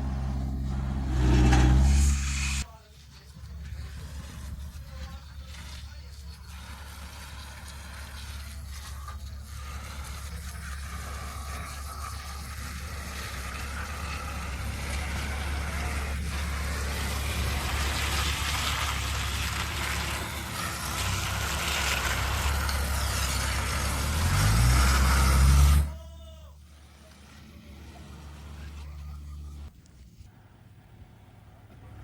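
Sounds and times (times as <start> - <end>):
vehicle engine running and revving: 0.0 - 2.7, 3.4 - 25.9, 26.7 - 29.7.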